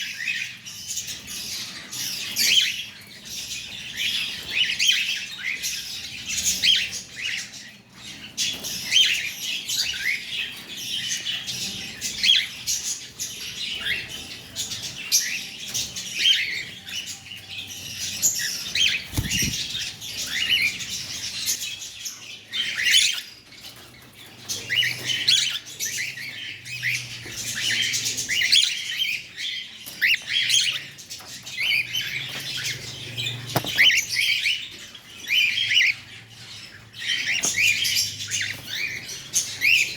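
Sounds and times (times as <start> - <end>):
cockatiels chirping and squawking: 0.0 - 39.9.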